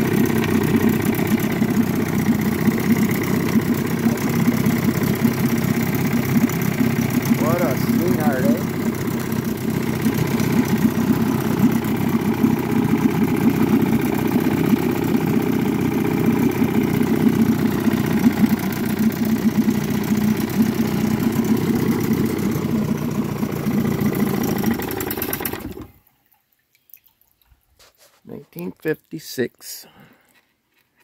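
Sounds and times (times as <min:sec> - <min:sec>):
outboard motor running: 0:00.0 - 0:26.1.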